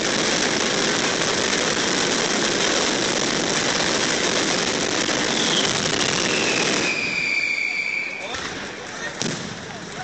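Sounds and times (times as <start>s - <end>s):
fireworks bursts and crackle: 0.0s - 10.0s.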